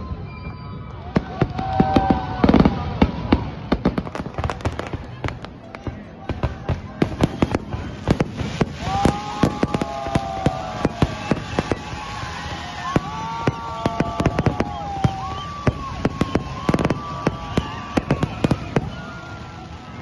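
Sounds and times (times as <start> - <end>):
fireworks bangs: 0.1 - 20.0.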